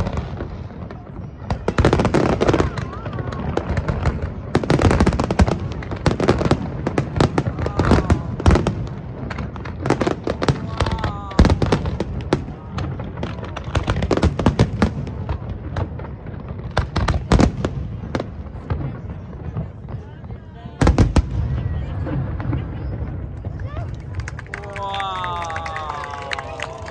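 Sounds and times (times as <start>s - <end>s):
crowd voices: 0.0s - 26.9s
fireworks bangs and crackles: 0.0s - 26.9s.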